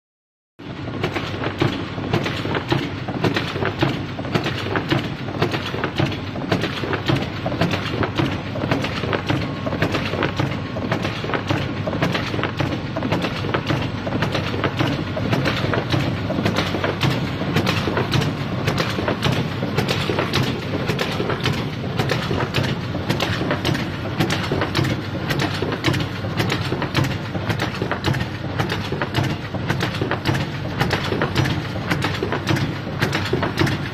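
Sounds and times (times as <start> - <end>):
box machine rumbling and clacking: 0.6 - 33.9.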